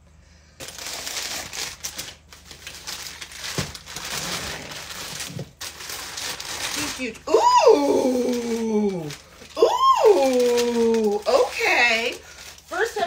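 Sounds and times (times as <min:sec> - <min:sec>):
cardboard and plastic mailers rustling: 0:00.6 - 0:13.0.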